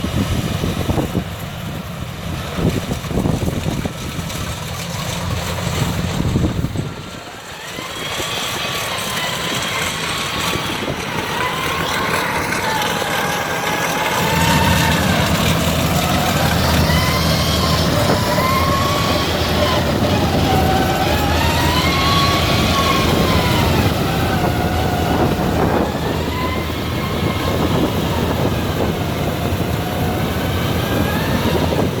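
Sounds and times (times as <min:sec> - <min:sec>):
combine harvester engine drone: 0:00.0 - 0:32.0
high wavering whine: 0:06.2 - 0:32.0.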